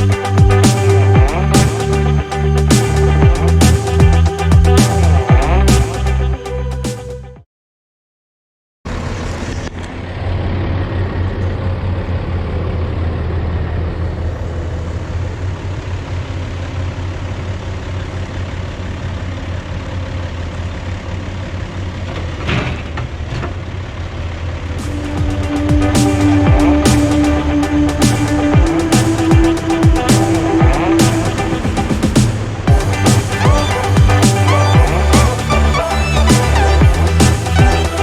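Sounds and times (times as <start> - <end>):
road noise: 0.0 - 6.6, 8.9 - 38.0
truck engine drone: 0.0 - 7.2, 8.9 - 38.0.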